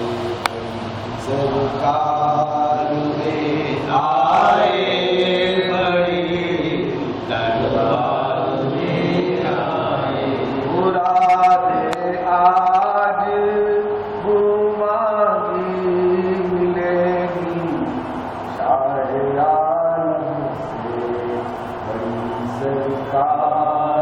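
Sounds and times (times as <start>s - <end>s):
man chanting unaccompanied: 0.0s - 24.0s.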